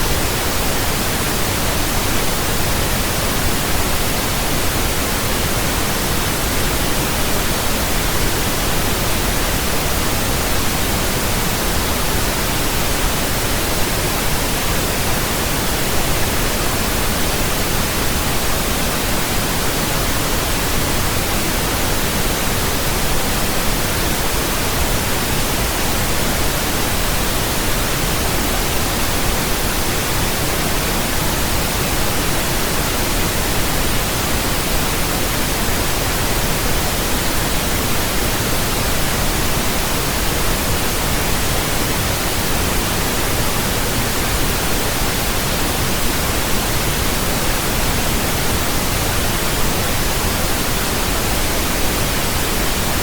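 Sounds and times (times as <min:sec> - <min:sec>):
pink noise hiss: 0:00.0 - 0:53.0.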